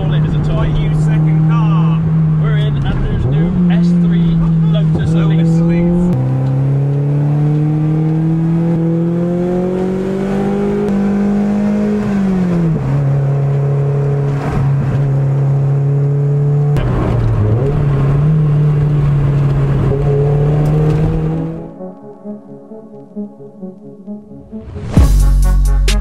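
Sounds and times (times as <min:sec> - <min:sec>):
car engine revving: 0:00.0 - 0:22.2.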